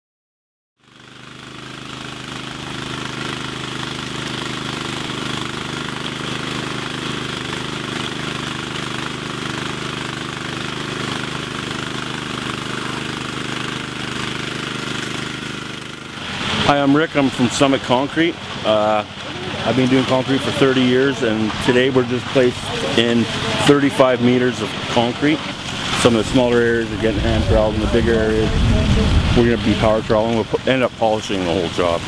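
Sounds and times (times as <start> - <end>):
power trowel engines running: 0.8 - 32.0.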